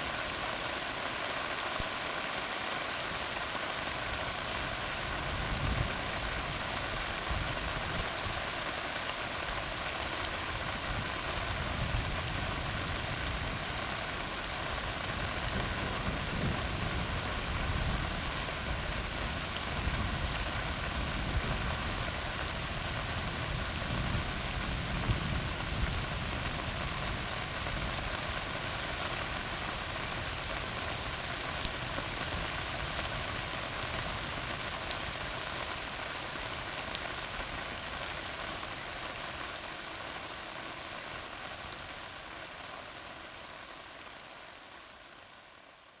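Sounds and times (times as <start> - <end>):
rain on a road: 0.0 - 46.0.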